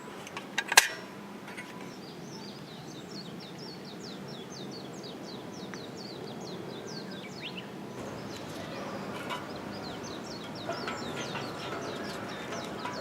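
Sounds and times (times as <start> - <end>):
low outdoor background noise: 0.0 - 13.0
small birds chirping: 0.0 - 13.0.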